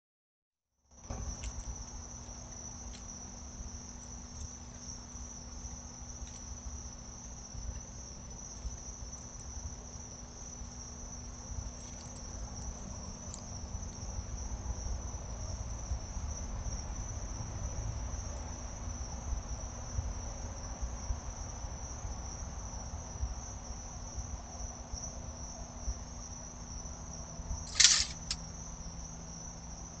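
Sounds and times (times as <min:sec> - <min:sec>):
crickets chirping: 0:00.9 - 0:30.0.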